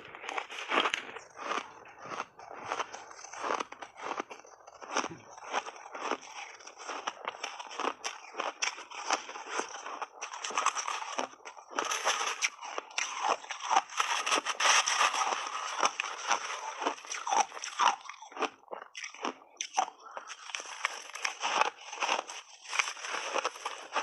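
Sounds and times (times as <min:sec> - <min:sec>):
chewing crunchy ice: 0:00.0 - 0:24.0.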